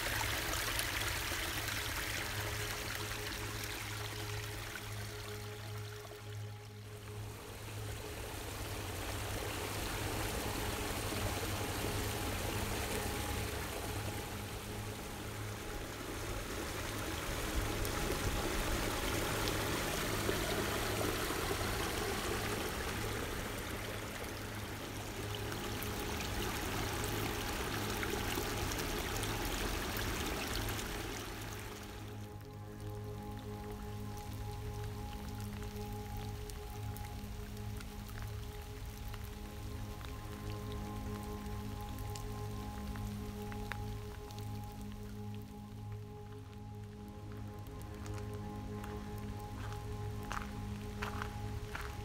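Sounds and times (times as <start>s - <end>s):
creek flowing over gravel: 0.0s - 52.0s.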